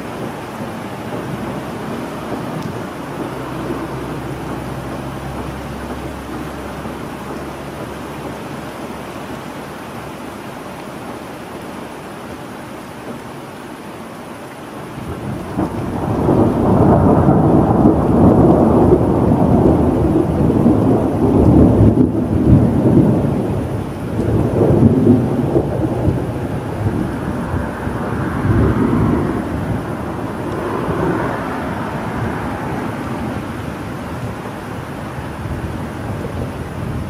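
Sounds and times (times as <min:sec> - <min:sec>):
rolling thunder rumble: 0:00.0 - 0:10.6, 0:14.8 - 0:37.0
steady rain: 0:00.0 - 0:37.0.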